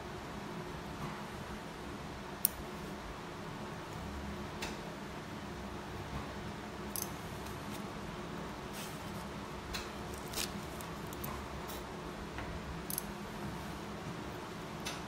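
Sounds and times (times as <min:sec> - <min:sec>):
equipment hum: 0:00.0 - 0:15.0.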